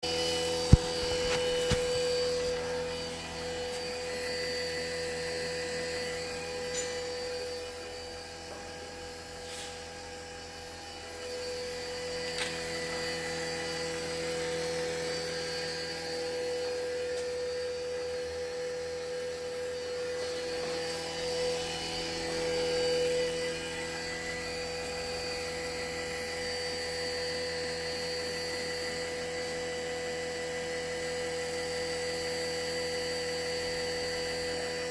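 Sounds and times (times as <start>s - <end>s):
small electric motor whining: 0.0s - 34.9s.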